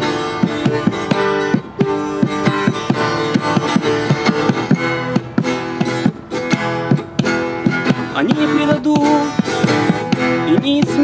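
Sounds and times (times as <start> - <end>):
acoustic guitar strumming chords: 0.0 - 11.0
goblet drum beat: 0.0 - 11.0.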